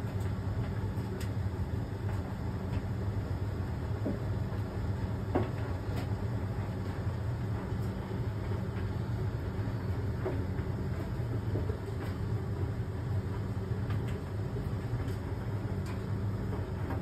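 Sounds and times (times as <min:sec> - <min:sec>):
clothes dryer humming: 0:00.0 - 0:17.0.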